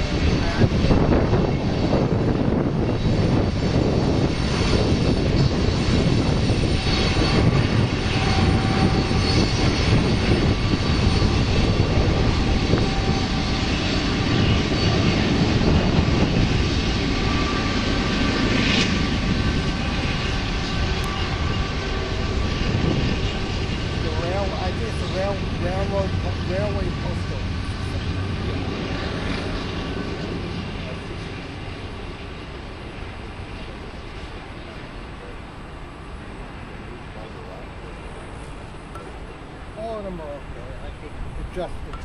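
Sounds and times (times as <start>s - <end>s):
freight train rumble on rails: 0.0s - 42.0s.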